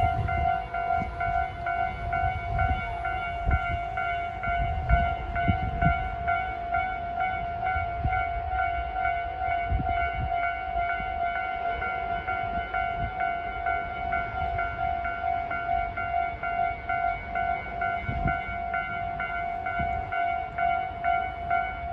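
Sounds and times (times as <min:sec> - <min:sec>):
level crossing warning bell: 0:00.0 - 0:21.9.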